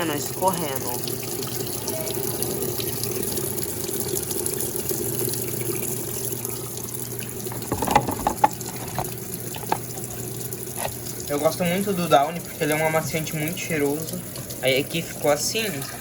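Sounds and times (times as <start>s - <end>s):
water running into washing machine: 0.0s - 16.0s.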